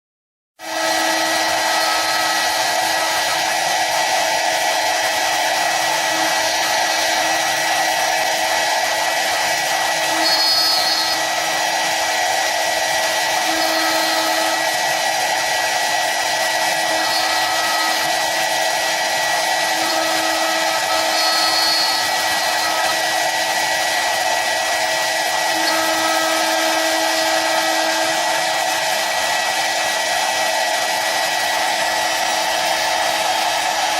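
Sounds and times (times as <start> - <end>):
wood lathe whirring: 0.6 - 33.9.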